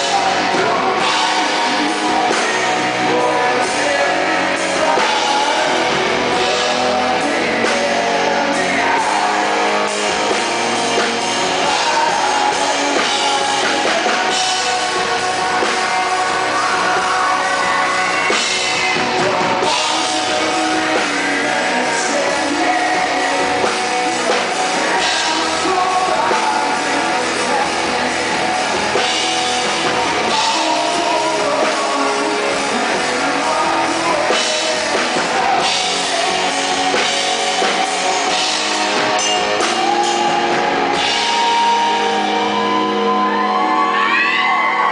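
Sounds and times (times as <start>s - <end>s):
male vocal singing: 0.0s - 43.5s
drums: 0.0s - 44.9s
electric guitar: 0.0s - 44.9s.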